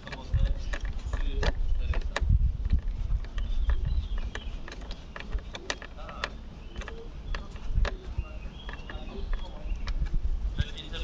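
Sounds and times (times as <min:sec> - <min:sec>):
fuses and relays clicking: 0:00.0 - 0:11.0
low rumble of handling noise: 0:00.0 - 0:11.0.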